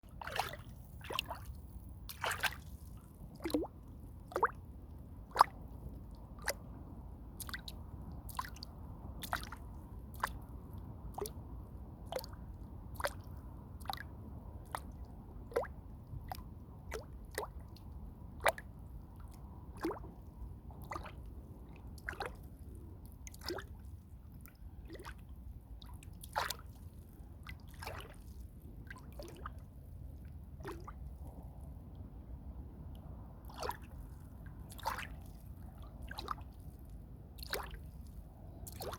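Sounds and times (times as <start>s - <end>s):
steady low rumble: 0.0s - 25.9s, 28.4s - 38.9s.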